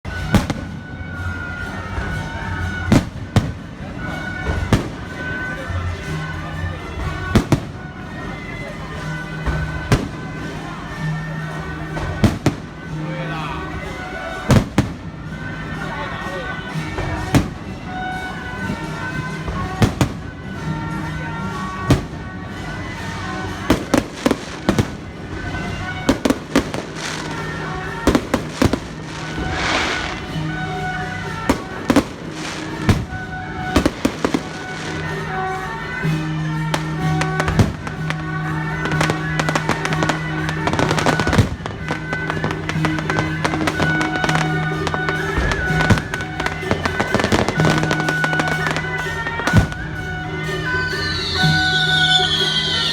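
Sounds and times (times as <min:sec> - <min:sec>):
music with held notes: 0:00.0 - 0:52.9
fireworks banging: 0:00.1 - 0:52.9.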